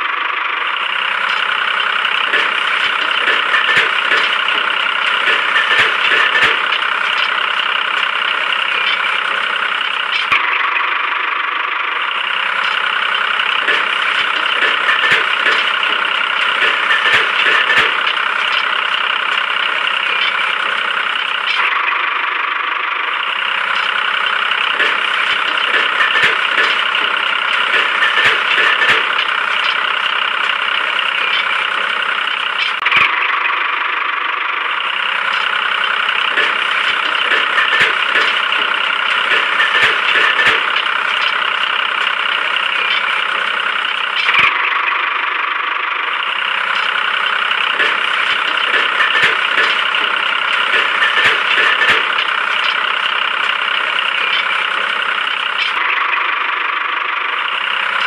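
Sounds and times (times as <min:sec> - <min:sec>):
motor running steadily: 0:00.0 - 0:58.0.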